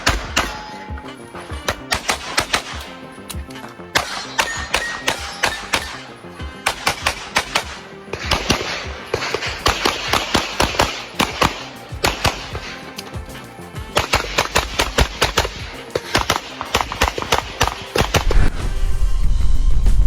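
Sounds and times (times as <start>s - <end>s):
rapid gunshot-like bangs: 0.0s - 0.8s, 1.5s - 3.0s, 4.0s - 18.4s
music: 0.0s - 20.0s.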